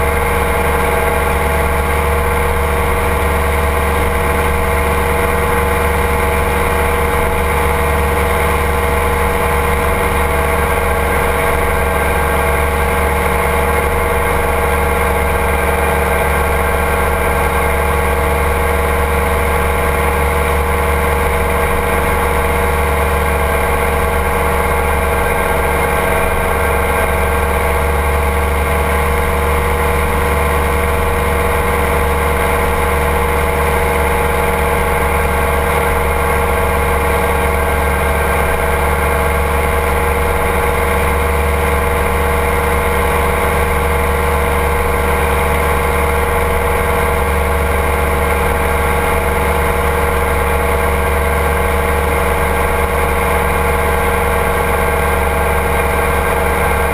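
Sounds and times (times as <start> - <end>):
ultralight engine droning: 0.0 - 56.9.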